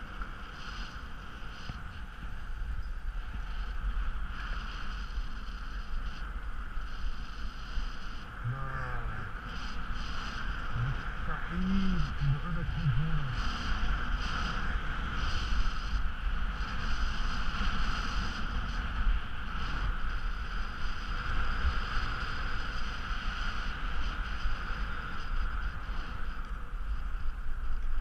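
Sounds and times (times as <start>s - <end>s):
skis sliding over snow: 0.0s - 28.0s
wind rumbling on microphone: 0.0s - 28.0s.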